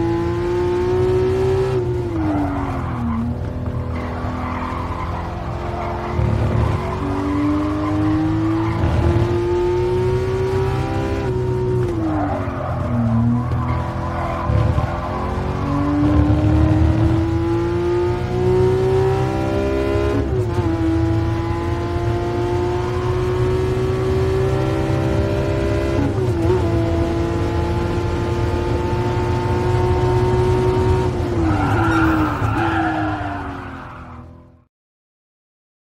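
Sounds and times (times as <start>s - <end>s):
car engine revving at full throttle: 0.0s - 34.3s.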